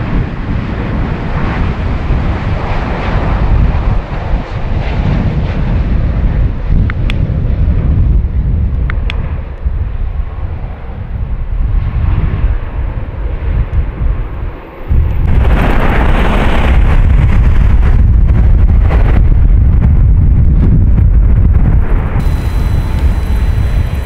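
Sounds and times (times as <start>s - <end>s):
jet airliner taking off: 0.0s - 24.0s.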